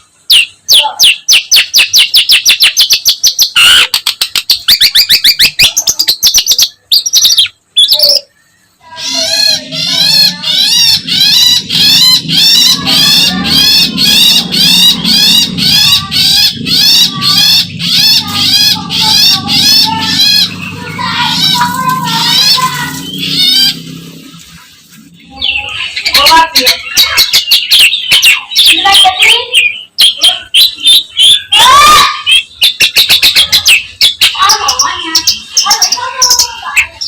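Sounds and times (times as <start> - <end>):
bird chattering notes: 0.0 - 37.0.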